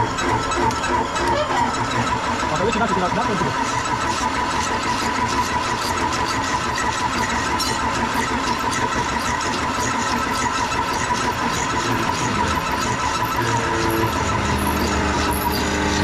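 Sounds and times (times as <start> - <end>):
milling machine cutting with whine: 0.0 - 16.0.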